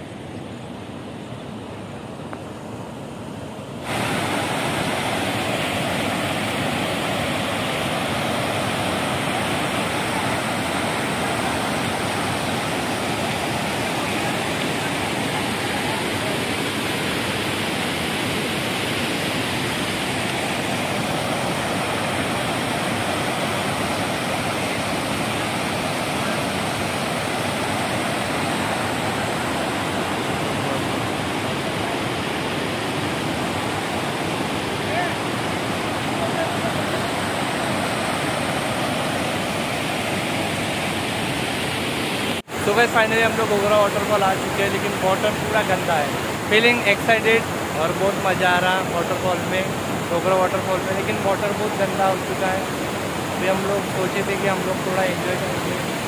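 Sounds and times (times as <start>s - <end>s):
waterfall rushing: 3.8s - 56.0s.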